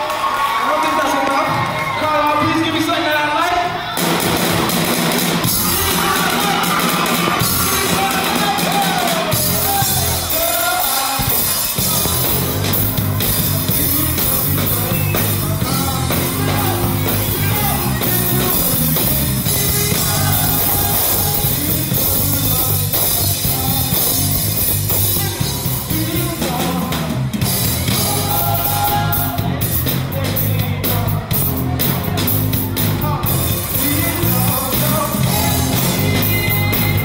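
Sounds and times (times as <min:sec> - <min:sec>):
electric bass line: 0:04.0 - 0:10.6, 0:11.2 - 0:37.0
person singing: 0:05.5 - 0:37.0.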